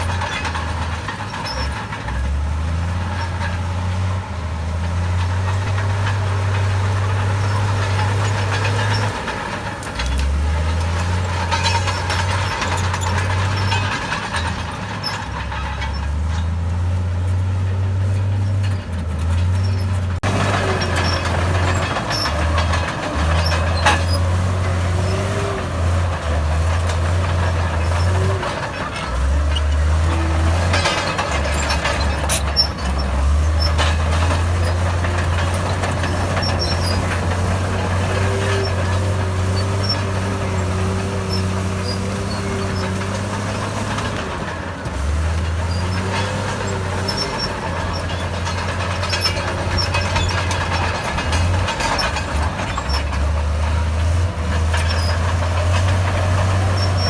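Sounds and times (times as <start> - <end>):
heavy diesel engine drone: 0.0 - 57.0
knocks and clanks: 0.0 - 57.0.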